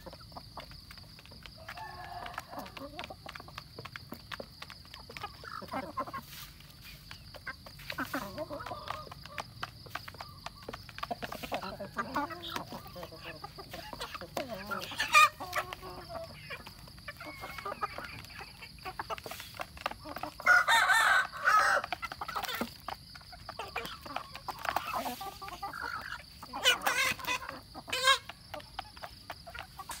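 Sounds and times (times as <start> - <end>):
beaks pecking at ground: 0.0 - 30.0
chickens clucking: 0.0 - 30.0
drawn-out chicken call: 0.0 - 30.0.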